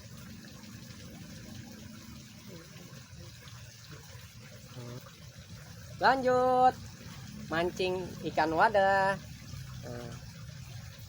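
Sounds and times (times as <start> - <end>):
small stream flowing: 0.0 - 11.0.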